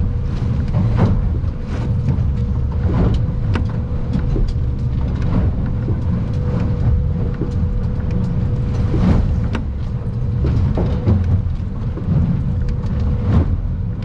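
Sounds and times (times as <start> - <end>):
boat engine and hull rumble: 0.0 - 14.0
sharp ticks and knocks: 0.3 - 14.0.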